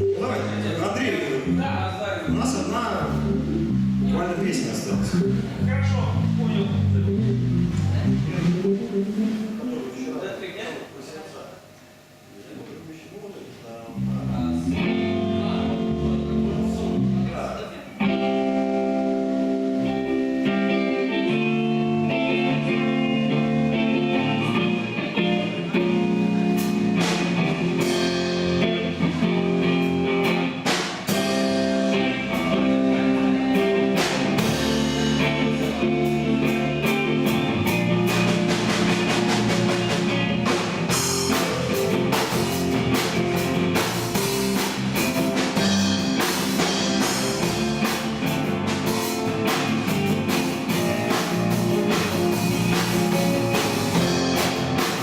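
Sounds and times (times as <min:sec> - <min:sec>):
guitar chords: 0:00.0 - 0:10.0, 0:14.0 - 0:55.0
drum kit: 0:00.0 - 0:10.8, 0:13.9 - 0:55.0.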